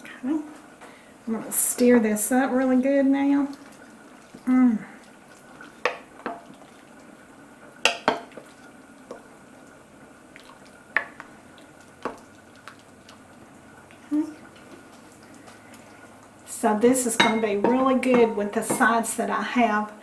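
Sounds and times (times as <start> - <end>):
wooden spoon stirring sauce: 2.3 - 19.4.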